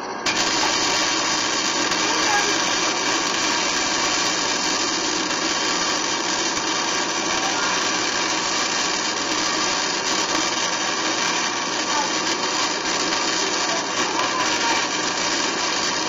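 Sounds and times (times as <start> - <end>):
power tool running steadily: 0.0 - 16.0.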